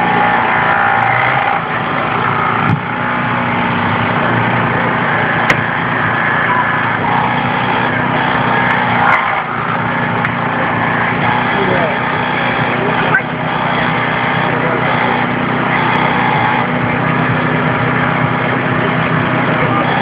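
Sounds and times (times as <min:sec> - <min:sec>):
small petrol engine running: 0:00.0 - 0:20.0.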